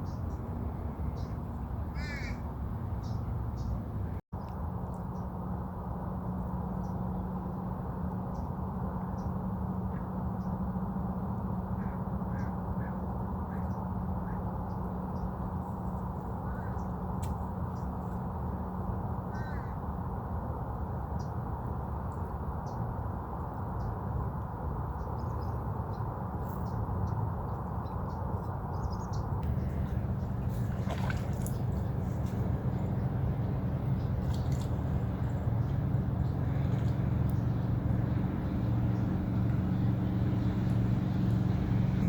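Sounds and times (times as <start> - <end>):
low background rumble: 0.0 - 42.0.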